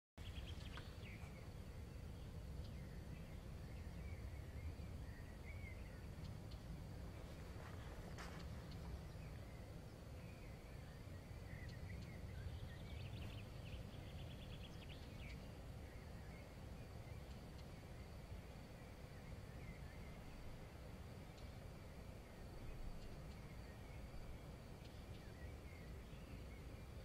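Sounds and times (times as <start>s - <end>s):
small birds chirping: 0.2s - 27.0s
steady low rumble: 0.2s - 27.0s.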